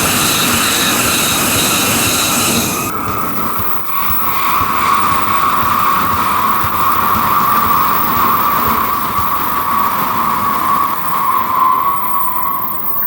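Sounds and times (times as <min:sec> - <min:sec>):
bullet train passing at speed: 0:00.0 - 0:13.0.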